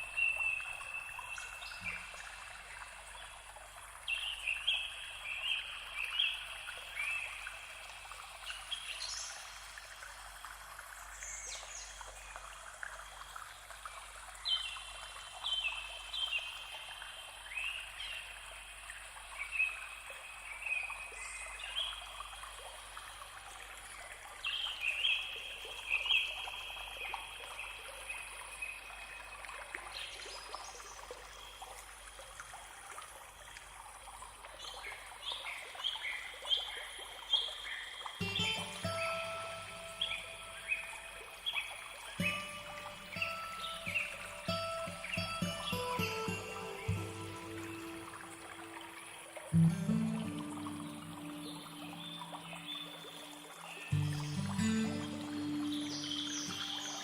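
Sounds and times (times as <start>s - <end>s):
trickling running water: 0.0s - 57.0s.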